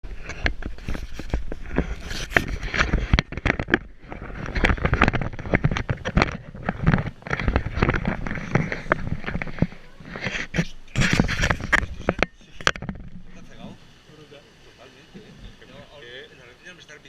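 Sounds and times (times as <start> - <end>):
knocks and crackles: 0.0 - 13.9.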